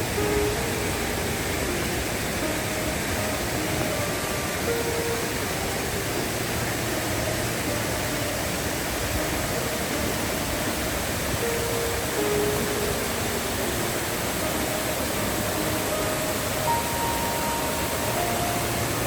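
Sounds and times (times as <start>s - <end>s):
faint background music: 0.0s - 19.0s
waterfall rushing: 0.0s - 19.0s.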